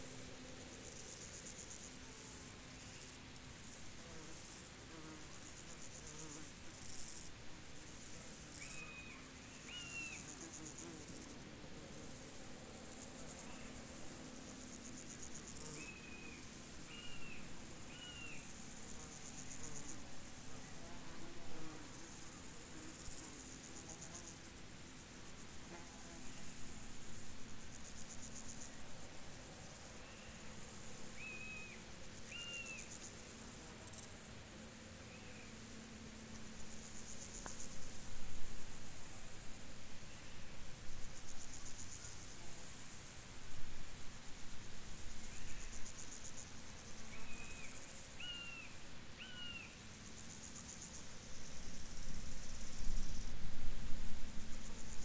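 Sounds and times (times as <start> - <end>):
insects chirping in trills: 0.2 - 7.3, 8.0 - 55.0.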